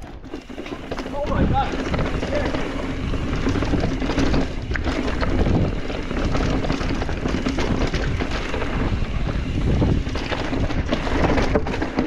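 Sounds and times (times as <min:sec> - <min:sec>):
bike knocks and rattles over rocks: 0:00.0 - 0:12.0
low rumble of bike on trail: 0:00.0 - 0:12.0
wind buffeting microphone: 0:00.7 - 0:12.0.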